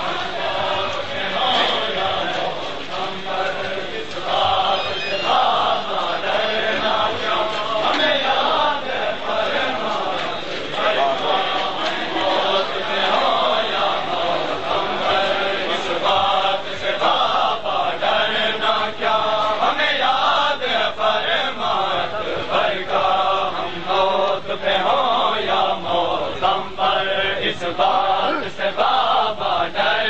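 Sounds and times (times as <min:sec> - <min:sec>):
crowd of men chanting: 0:00.0 - 0:30.0.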